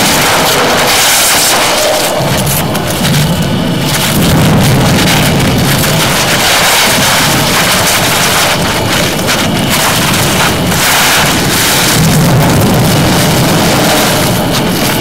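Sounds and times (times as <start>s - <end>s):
gritty crackling of dung ball on soil: 0.0s - 15.0s.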